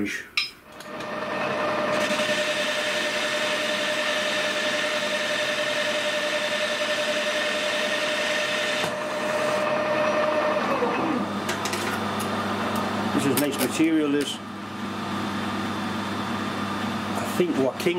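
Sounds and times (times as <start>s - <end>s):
lathe running tone: 0.8s - 17.9s.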